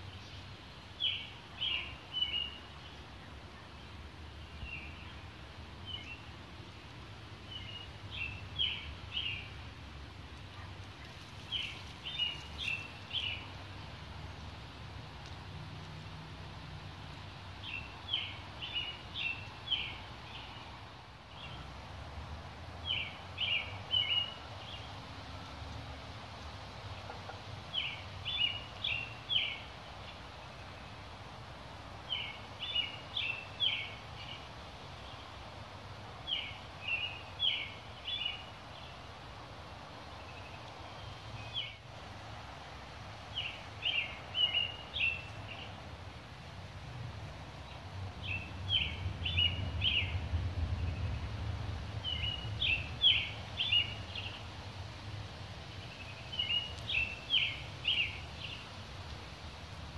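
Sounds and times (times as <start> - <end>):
background hiss: 0.0 - 59.9
songbird singing: 0.0 - 59.9.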